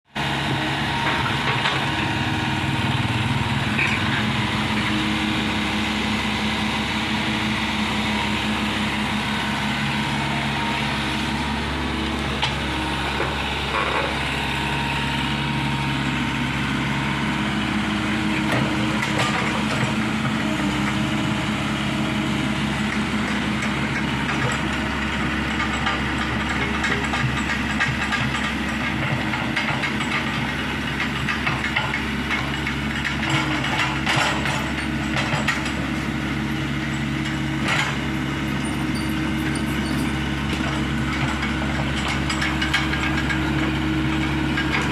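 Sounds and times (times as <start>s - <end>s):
excavator diesel engine running: 0.1s - 44.9s.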